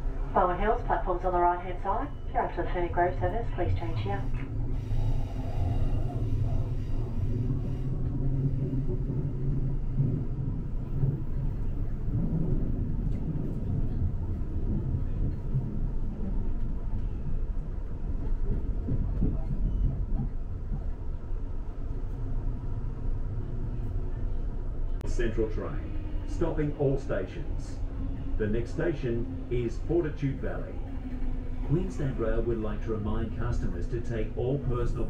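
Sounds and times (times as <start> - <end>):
electric train rumble from inside: 0.0 - 35.0.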